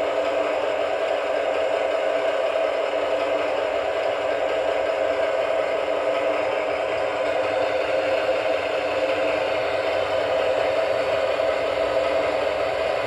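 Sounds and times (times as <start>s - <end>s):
model locomotive diesel engine sound: 0.0s - 13.0s.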